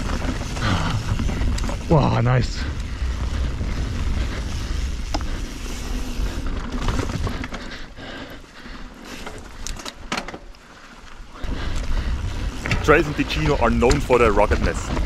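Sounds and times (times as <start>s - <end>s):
bike clicks and rattles: 0.0s - 15.0s
bike rolling on rocky dirt trail: 0.0s - 15.0s.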